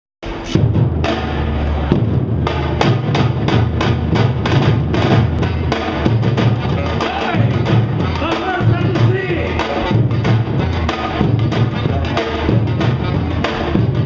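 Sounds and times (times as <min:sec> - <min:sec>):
drum strokes in rapid rhythm: 0:00.2 - 0:14.0
surdo bass drums booming: 0:00.2 - 0:14.0.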